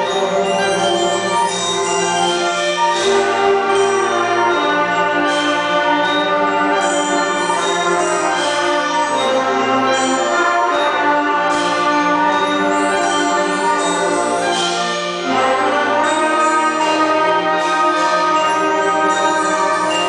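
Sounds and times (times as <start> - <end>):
brass instruments: 0.0 - 20.0
orchestra playing held chords: 0.0 - 20.0.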